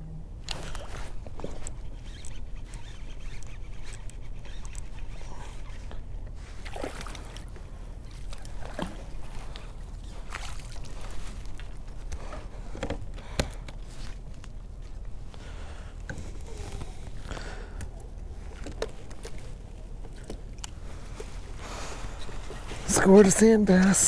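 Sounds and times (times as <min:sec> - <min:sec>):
water lapping against hull: 0:00.4 - 0:23.2.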